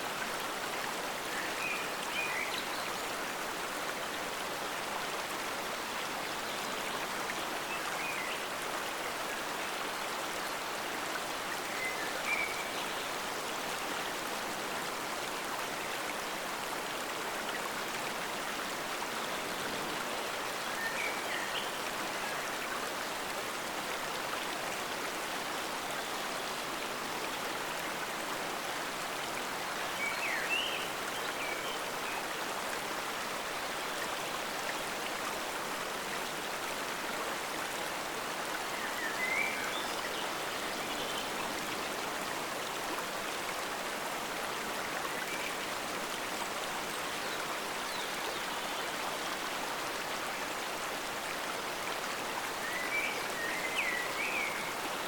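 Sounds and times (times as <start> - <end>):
forest stream flowing: 0.0 - 55.0.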